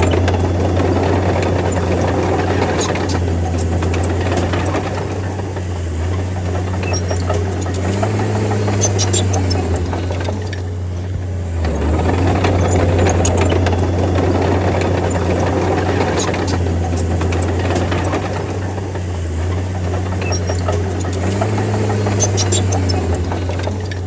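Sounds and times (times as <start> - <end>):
bulldozer engine droning: 0.0 - 24.0
machinery clicks and knocks: 0.0 - 24.0.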